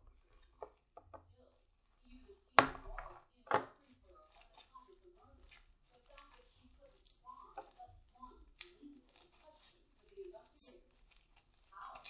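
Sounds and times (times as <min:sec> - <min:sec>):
slime squishing in hands: 0:00.0 - 0:12.0
slime popping: 0:02.1 - 0:12.0.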